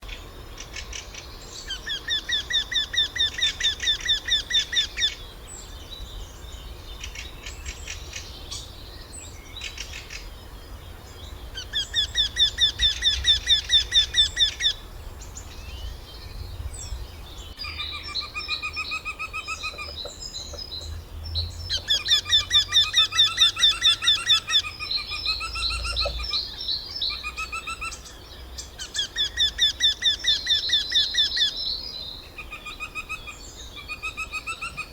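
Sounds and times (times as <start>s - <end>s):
faint other bird calls: 0.0s - 34.9s.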